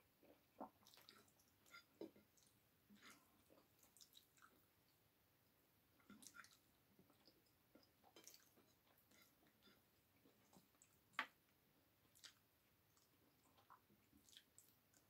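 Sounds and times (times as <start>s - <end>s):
person chewing food: 0.2s - 5.0s, 6.0s - 15.0s.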